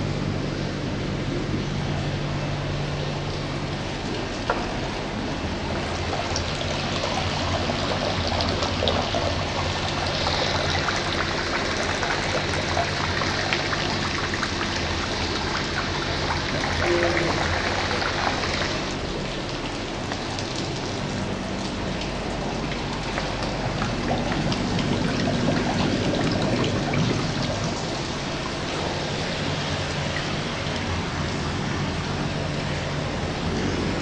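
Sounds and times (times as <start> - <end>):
low machine hum: 0.0 - 34.0
water bubbling and splashing: 0.0 - 34.0.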